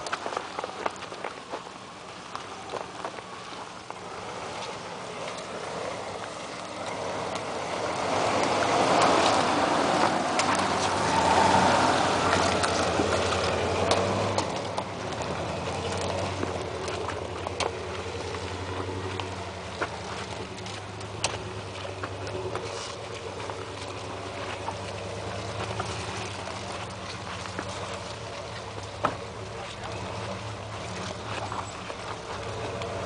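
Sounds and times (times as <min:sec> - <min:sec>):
engine droning off-road: 0:00.0 - 0:33.0.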